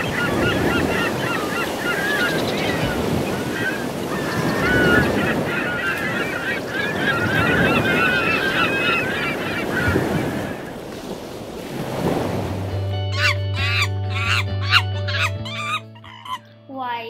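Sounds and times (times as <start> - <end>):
flock of birds honking: 0.0 - 10.9, 13.1 - 16.4.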